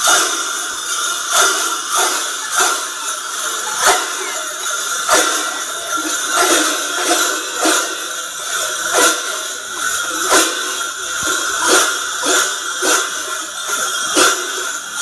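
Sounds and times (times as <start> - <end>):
cowbells clanging: 0.0 - 15.0.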